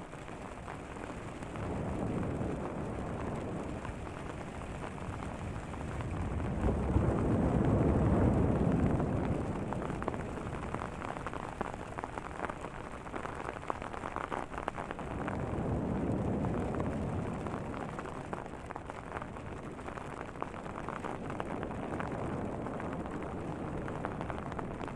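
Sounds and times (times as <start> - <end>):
hail and rain on a tent: 0.0 - 24.9
deep ocean waves: 0.6 - 12.2, 13.2 - 24.9.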